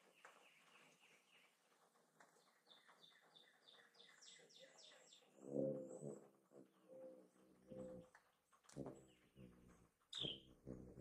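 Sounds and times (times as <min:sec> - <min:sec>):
faint songbirds singing: 0:00.0 - 0:11.0.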